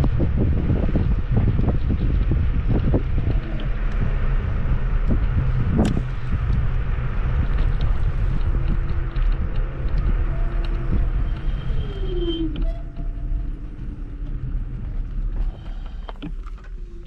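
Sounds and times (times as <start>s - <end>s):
scooter riding rumble: 0.0s - 17.0s
wind buffeting on microphone: 0.0s - 17.0s.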